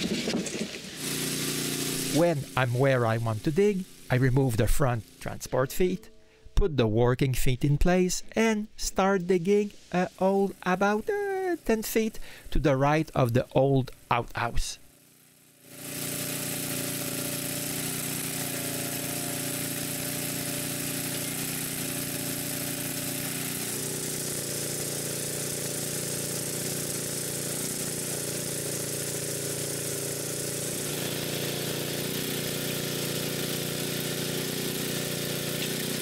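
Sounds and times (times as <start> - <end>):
excavator engine running: 0.0 - 6.0, 8.4 - 36.0.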